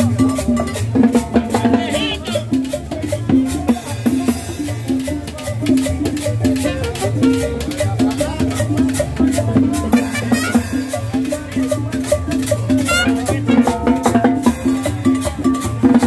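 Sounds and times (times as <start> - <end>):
latin dance band playing: 0.0 - 16.0
plucked upright bass: 0.0 - 16.0
shaker: 0.0 - 16.0.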